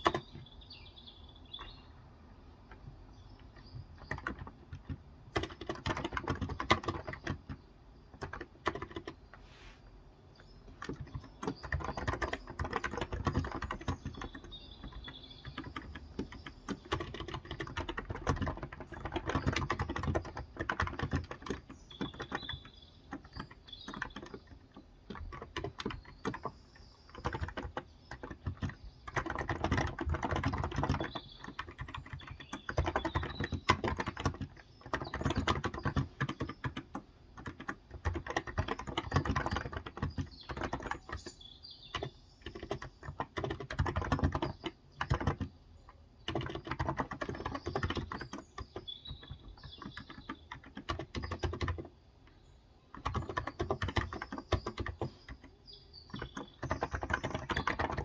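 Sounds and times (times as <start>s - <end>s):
typing on keyboard: 0.0s - 0.5s, 2.6s - 9.4s, 10.4s - 58.0s
birds chirping faintly: 0.0s - 58.0s.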